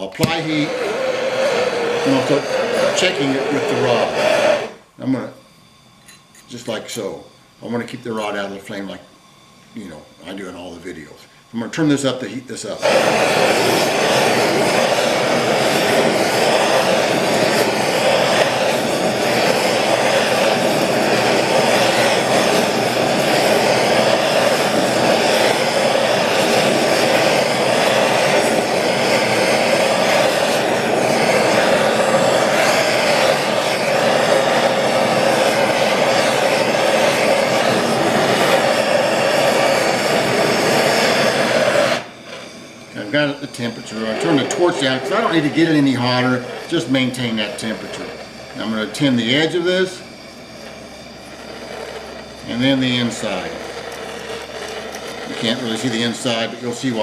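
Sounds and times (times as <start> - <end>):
gas torch hissing: 0.0 - 57.0.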